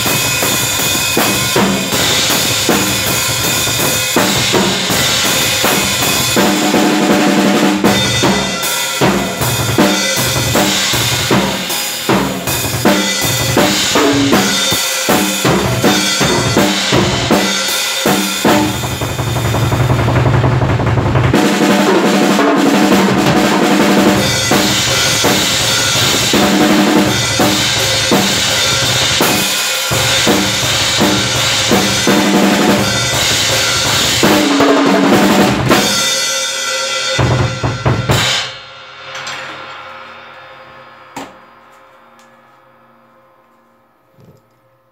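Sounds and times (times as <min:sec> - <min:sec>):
cymbals ringing: 0:00.0 - 0:06.8, 0:07.8 - 0:19.8, 0:22.9 - 0:34.8, 0:35.7 - 0:44.9
fast drum kit playing: 0:00.0 - 0:38.8.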